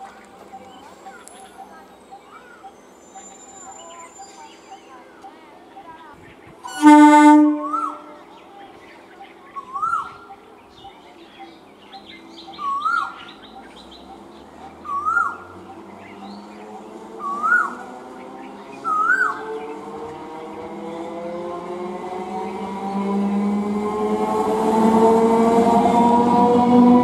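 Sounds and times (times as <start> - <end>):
birds chirping: 0.0 - 23.2.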